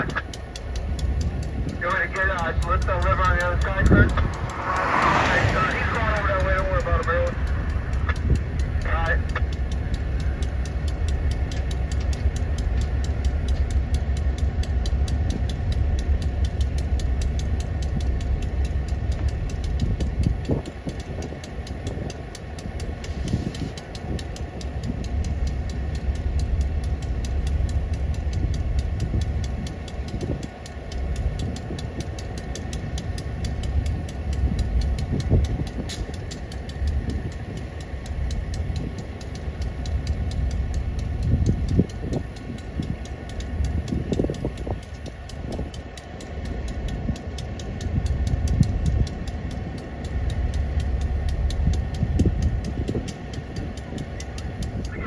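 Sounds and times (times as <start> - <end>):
diesel locomotive idling: 0.0 - 55.0.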